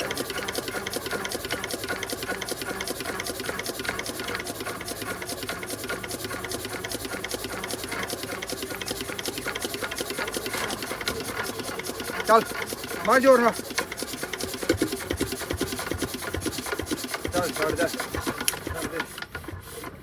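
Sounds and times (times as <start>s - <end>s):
pump machinery clattering: 0.0s - 20.0s.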